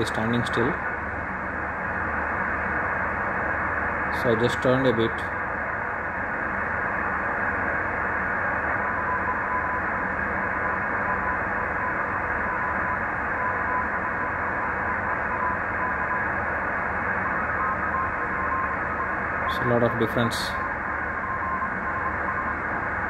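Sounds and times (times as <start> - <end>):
radio band noise hiss: 0.0 - 23.0.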